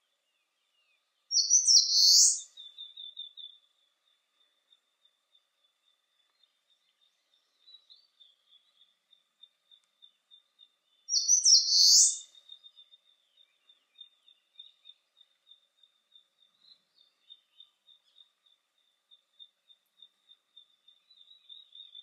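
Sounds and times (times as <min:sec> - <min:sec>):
warbler singing: 0:00.2 - 0:22.0.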